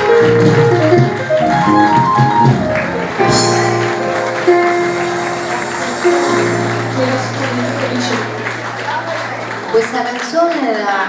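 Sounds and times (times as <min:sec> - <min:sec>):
bass guitar line: 0:00.0 - 0:09.7
live band playing held chords: 0:00.0 - 0:10.1.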